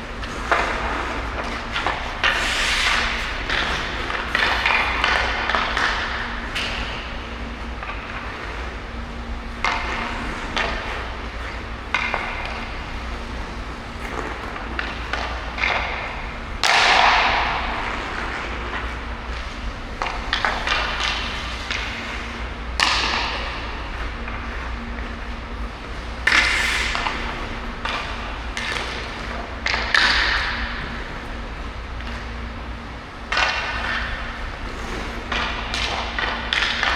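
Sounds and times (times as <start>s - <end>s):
skate blades scraping ice: 0.0s - 36.9s
steady low hum: 0.0s - 36.9s.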